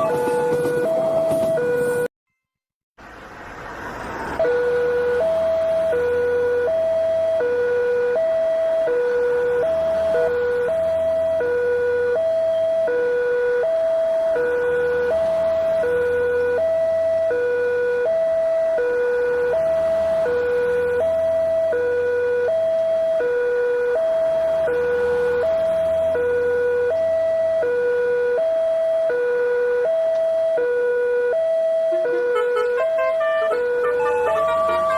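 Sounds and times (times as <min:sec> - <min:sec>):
two-tone warning siren: 0:00.0 - 0:02.1, 0:03.0 - 0:34.9.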